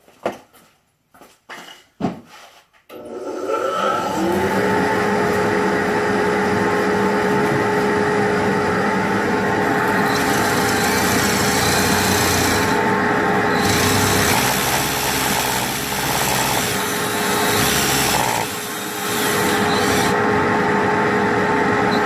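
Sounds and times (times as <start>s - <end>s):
vacuum cleaner running: 2.9s - 22.0s.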